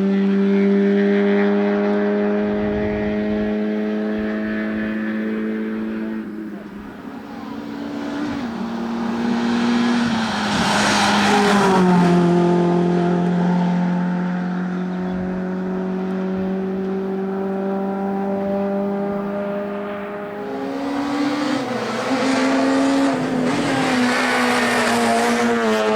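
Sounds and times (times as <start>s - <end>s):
race car engine passing by: 0.0s - 25.9s.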